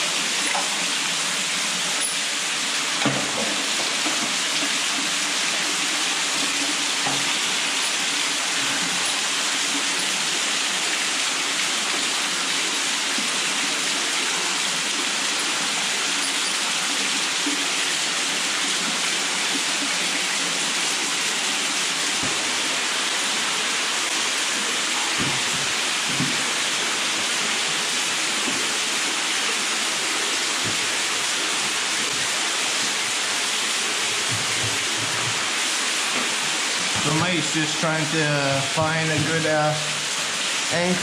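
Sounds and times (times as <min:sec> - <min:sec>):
waterfall splashing: 0:00.0 - 0:41.0.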